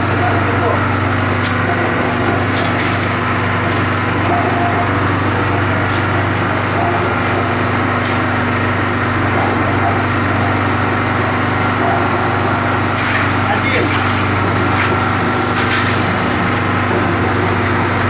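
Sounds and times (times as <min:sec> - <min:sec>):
concrete mixer drum turning: 0:00.0 - 0:18.0
portable generator running: 0:00.0 - 0:18.0.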